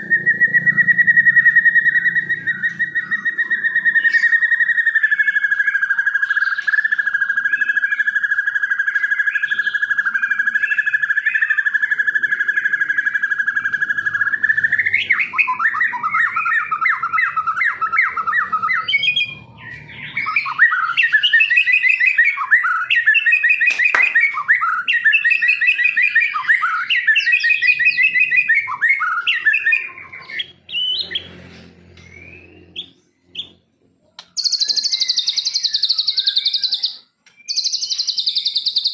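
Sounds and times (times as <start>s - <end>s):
songbird trilling and warbling: 0.0s - 38.9s.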